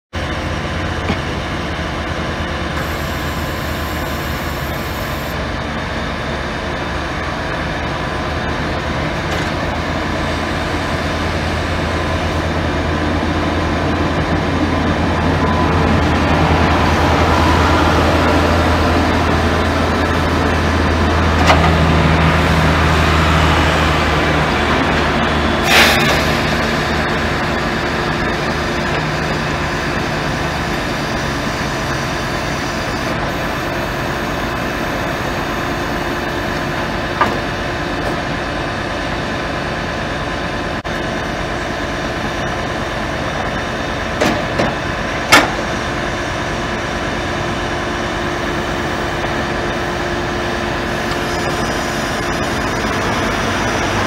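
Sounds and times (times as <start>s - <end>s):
diesel engine running: 0.2s - 54.0s
hydraulics humming: 0.2s - 54.0s.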